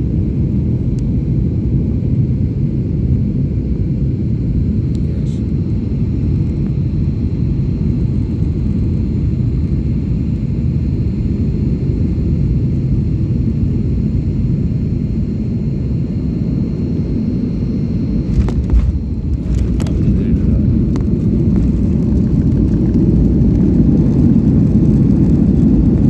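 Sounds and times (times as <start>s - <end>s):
airliner low rumble: 0.0s - 26.0s.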